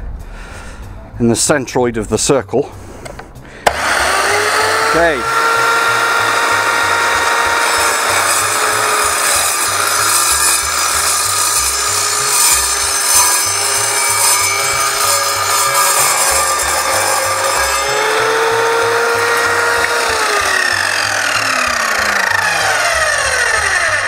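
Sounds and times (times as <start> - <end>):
saw blade cutting steel: 3.6 - 24.0.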